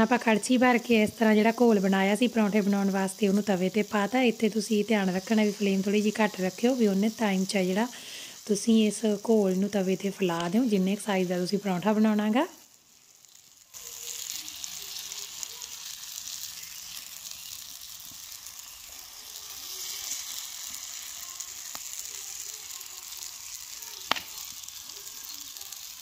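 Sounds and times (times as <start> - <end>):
batter sizzling in hot oil: 0.0 - 26.0.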